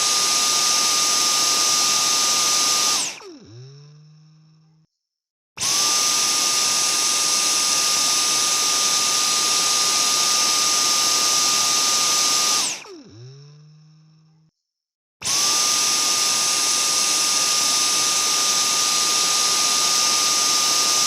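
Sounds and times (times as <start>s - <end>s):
vacuum cleaner motor whine: 0.0s - 4.8s, 5.6s - 14.4s, 15.2s - 21.0s.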